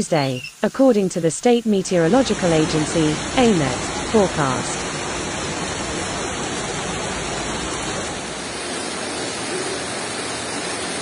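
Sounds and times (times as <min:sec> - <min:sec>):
floodwater rushing: 0:01.9 - 0:11.0.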